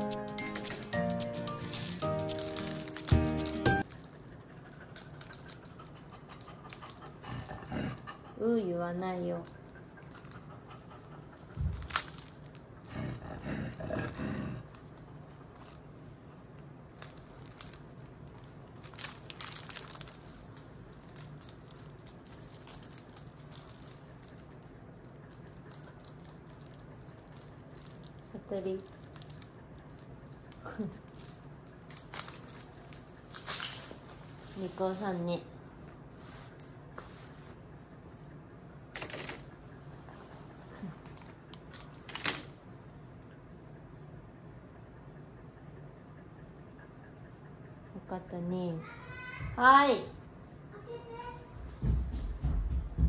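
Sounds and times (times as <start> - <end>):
steady low hum: 1.0 - 49.0.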